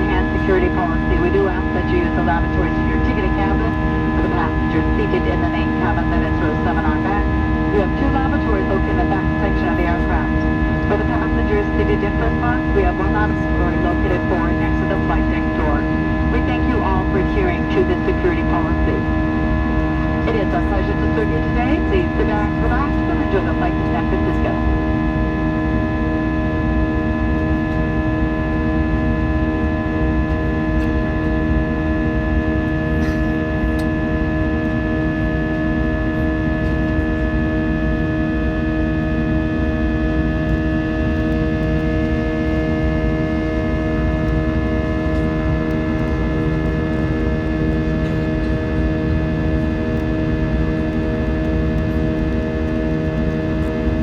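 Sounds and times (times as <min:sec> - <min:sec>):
jet engines droning in cabin: 0:00.0 - 0:54.0.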